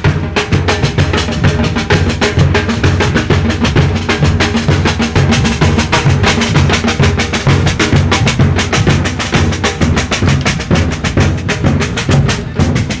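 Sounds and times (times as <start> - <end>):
drum band playing fast rhythm: 0.0 - 13.0.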